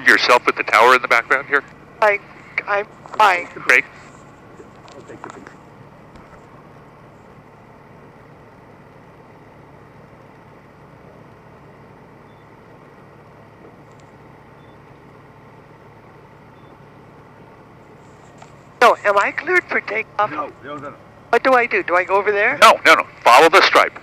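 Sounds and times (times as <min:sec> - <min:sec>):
aircraft engine and propeller droning: 0:00.0 - 0:24.0.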